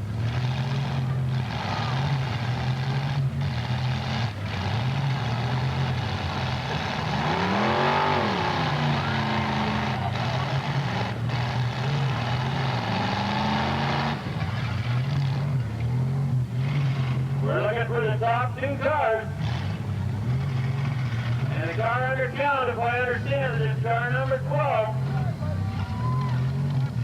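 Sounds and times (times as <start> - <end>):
car engine revving: 0.0 - 27.0
car engines droning: 0.0 - 27.0.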